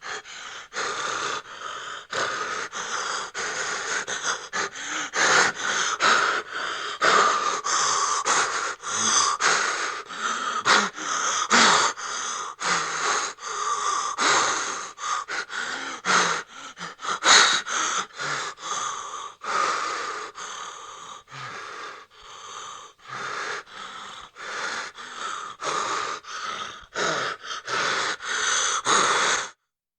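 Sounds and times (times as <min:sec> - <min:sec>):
person gasping and wheezing: 0:00.0 - 0:29.7.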